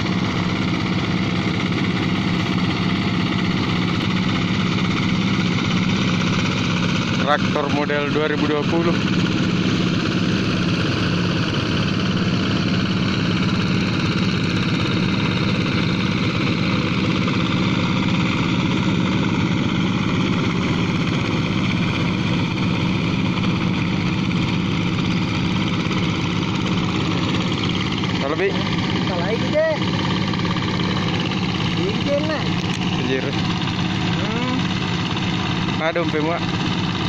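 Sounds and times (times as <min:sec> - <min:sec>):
diesel tractor engines running: 0:00.0 - 0:37.0.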